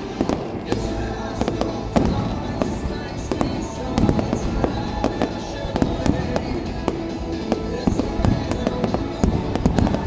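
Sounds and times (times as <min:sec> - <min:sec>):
fireworks bangs and crackles: 0:00.0 - 0:10.0
stadium music: 0:00.0 - 0:10.0.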